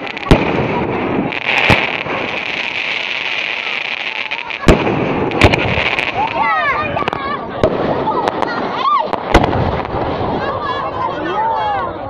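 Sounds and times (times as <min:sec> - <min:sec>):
fireworks bangs: 0:00.0 - 0:11.2.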